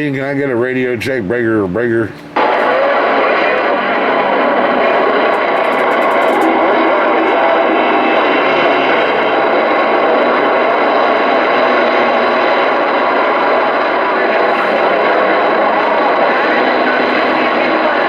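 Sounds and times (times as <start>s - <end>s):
radio static hiss: 1.9s - 18.0s
radio crackle: 2.0s - 18.0s.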